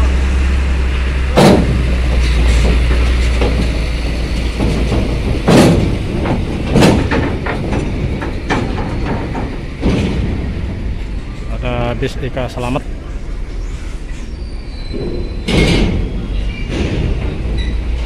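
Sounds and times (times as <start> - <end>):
truck engine running low: 0.0 - 18.0
wheels clanking over steel plates: 0.0 - 18.0.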